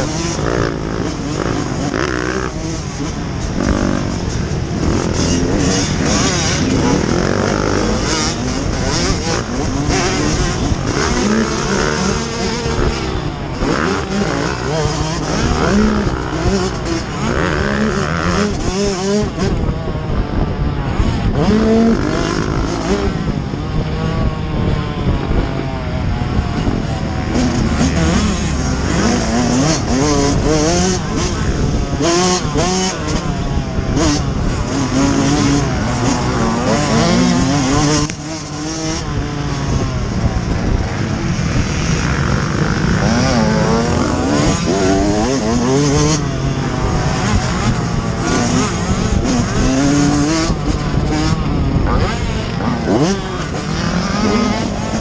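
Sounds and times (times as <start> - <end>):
two-stroke motorcycle engine revving: 0.0 - 55.0
wind rushing over microphone: 0.0 - 55.0.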